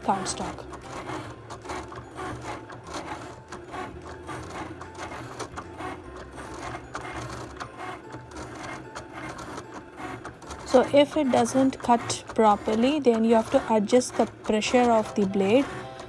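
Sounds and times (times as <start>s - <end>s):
cutting machine motor whines: 0.0s - 16.0s.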